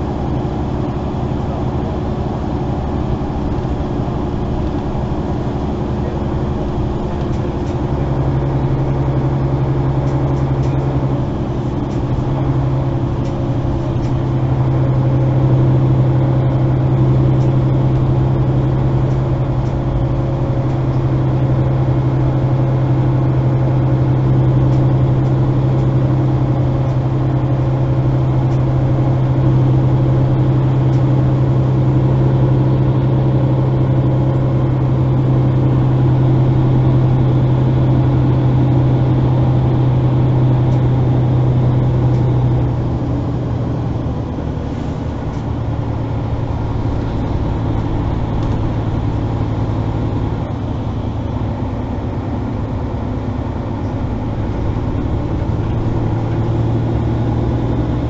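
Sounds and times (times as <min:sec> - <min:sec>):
bus diesel engine hum: 0:00.0 - 0:58.0
road noise: 0:00.0 - 0:58.0.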